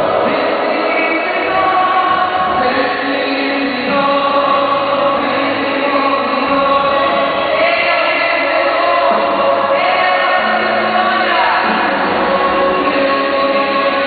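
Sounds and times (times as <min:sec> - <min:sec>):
crowd singing worship song: 0:00.0 - 0:14.0.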